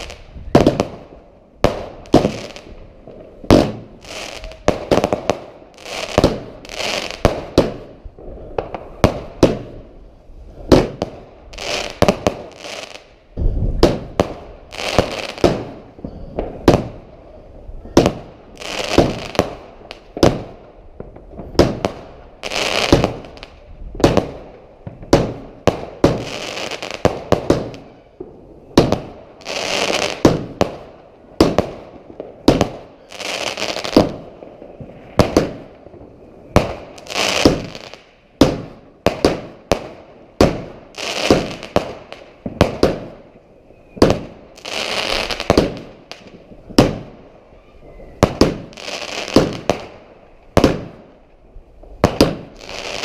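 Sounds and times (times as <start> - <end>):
fireworks bangs with crackling: 0.0 - 53.0.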